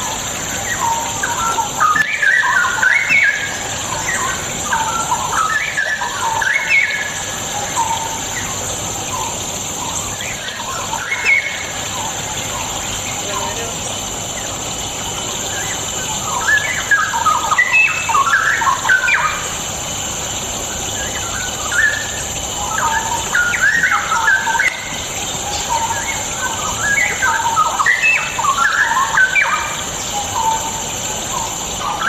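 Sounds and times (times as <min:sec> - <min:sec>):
bird warbling song: 0:00.0 - 0:32.0
steady high hiss: 0:00.0 - 0:32.0.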